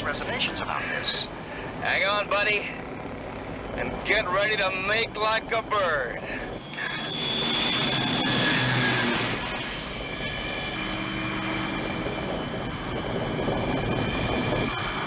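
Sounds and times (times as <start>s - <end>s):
engine running with high whine: 0.0s - 15.0s.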